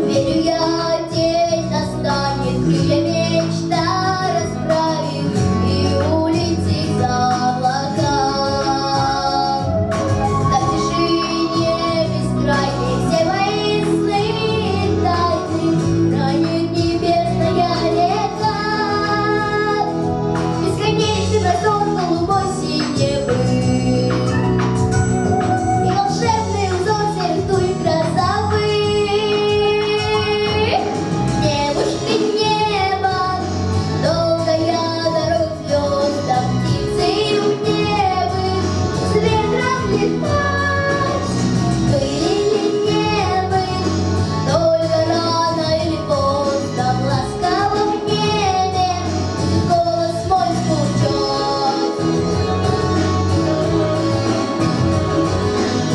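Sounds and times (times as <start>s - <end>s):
woman singing: 0.0s - 54.7s
instrumental backing: 0.0s - 55.9s.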